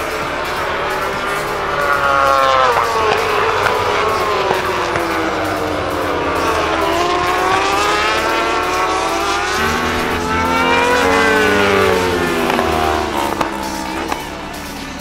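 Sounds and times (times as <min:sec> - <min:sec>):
racing motorcycles passing by: 0:00.0 - 0:15.0.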